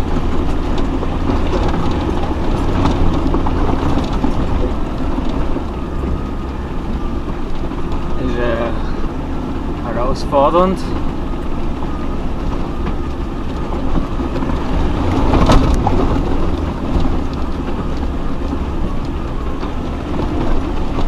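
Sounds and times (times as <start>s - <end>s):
off-road vehicle engine rumble: 0.0s - 21.0s.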